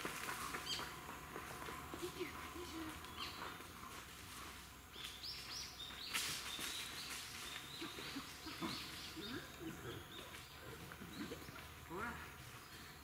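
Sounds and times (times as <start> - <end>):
songbird singing: 0.4 - 3.9, 4.7 - 13.0.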